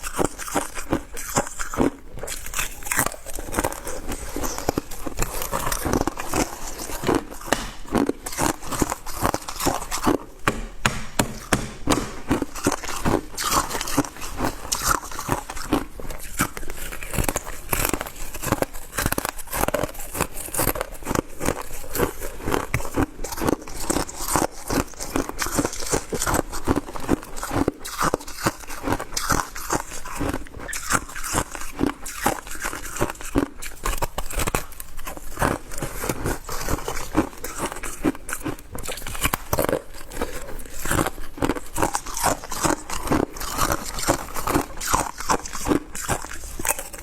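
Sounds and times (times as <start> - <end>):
ice being chewed: 0.0 - 10.8, 11.4 - 47.0.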